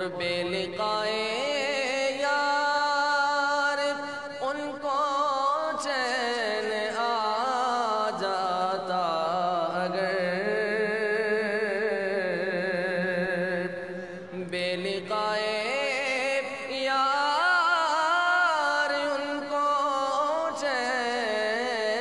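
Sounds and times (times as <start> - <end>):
man singing: 0.0 - 22.0.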